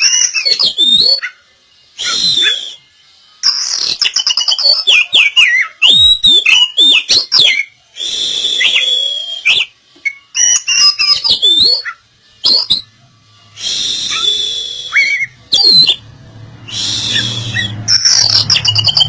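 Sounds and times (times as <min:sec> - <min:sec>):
bird singing whistled phrases: 0:00.0 - 0:12.9, 0:13.5 - 0:19.0.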